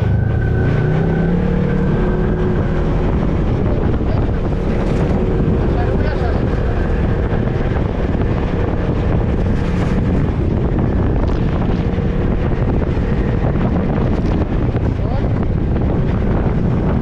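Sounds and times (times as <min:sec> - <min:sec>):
vehicle running noise: 0:00.0 - 0:17.0
wind buffeting microphone: 0:00.0 - 0:17.0.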